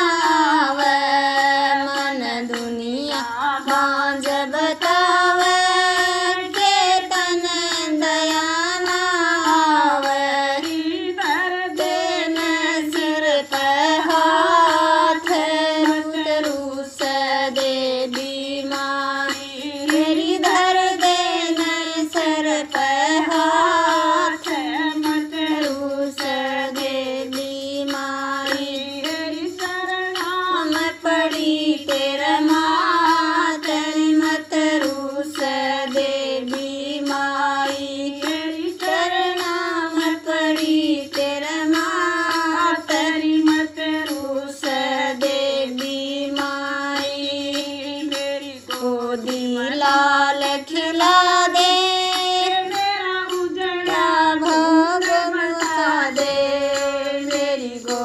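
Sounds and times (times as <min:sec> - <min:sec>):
person singing devotional song: 0:00.0 - 0:58.0.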